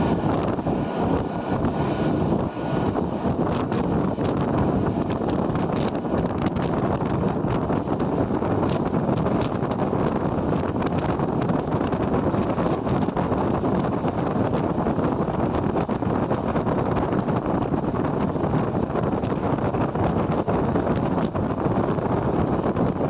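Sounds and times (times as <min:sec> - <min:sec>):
train wheels rumbling on rails: 0:00.0 - 0:23.0
wind buffeting microphone: 0:00.0 - 0:23.0.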